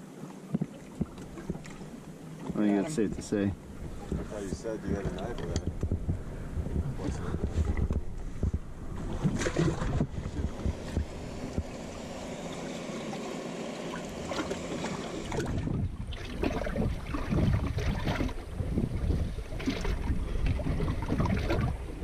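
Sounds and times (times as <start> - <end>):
wind buffeting microphone: 0.6 - 12.7, 15.2 - 22.0.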